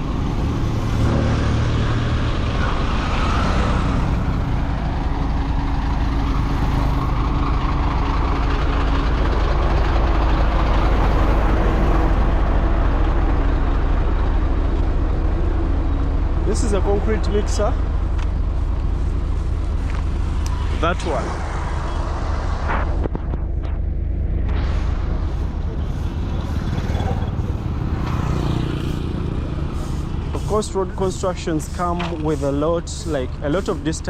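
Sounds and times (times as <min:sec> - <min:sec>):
diesel engine low rumble: 0:00.0 - 0:34.0.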